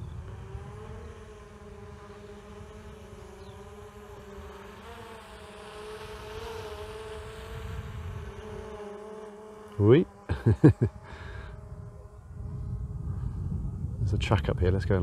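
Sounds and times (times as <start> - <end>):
drone propellers buzzing: 0.0 - 14.1.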